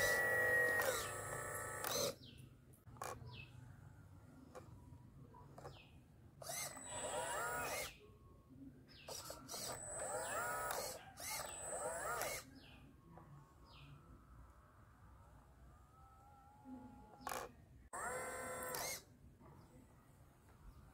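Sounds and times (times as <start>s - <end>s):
toy excavator motors whining: 0.0s - 3.5s, 4.4s - 8.2s, 8.9s - 19.7s.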